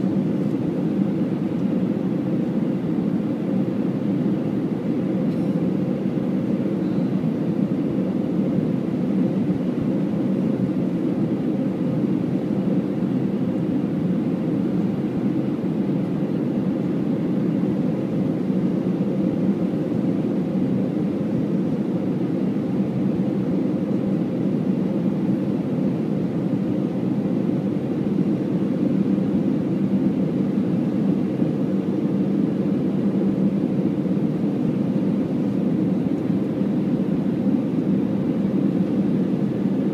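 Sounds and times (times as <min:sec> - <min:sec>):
aircraft cabin engine drone: 0:00.0 - 0:39.9
faint steady hum: 0:00.0 - 0:39.9.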